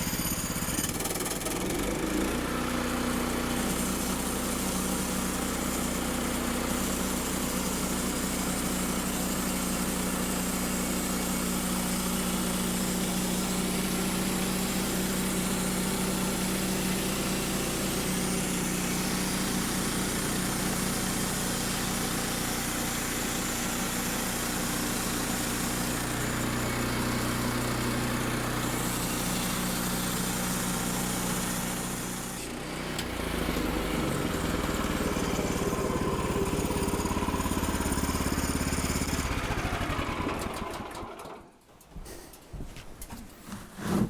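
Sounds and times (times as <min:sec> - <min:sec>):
bandsaw sawmill cutting: 0:00.0 - 0:41.6.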